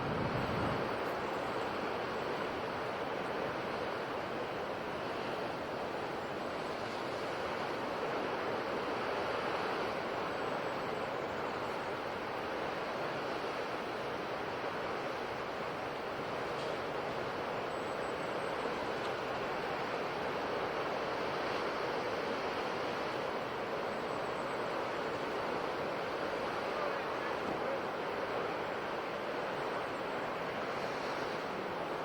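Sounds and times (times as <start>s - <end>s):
ocean surf: 0.0s - 32.0s.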